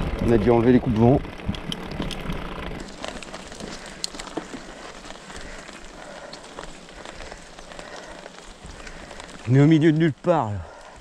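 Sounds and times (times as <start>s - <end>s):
bike tyres rolling over stony ground: 0.0s - 11.0s.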